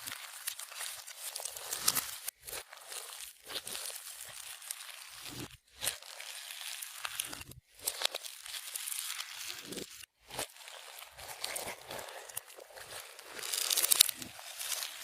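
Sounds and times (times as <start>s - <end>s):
slime crackling and popping: 0.0s - 15.0s.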